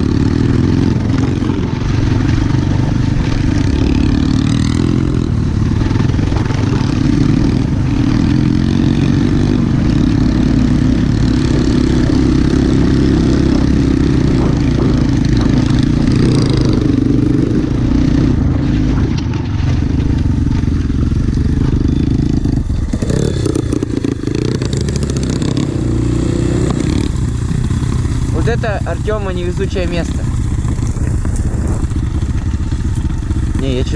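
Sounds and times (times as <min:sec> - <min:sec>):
motorbike engine running: 0:00.0 - 0:33.9.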